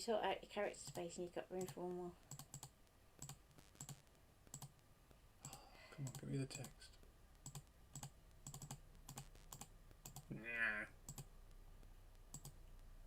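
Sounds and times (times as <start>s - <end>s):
computer keys tapping: 0.8s - 10.3s, 11.0s - 13.0s.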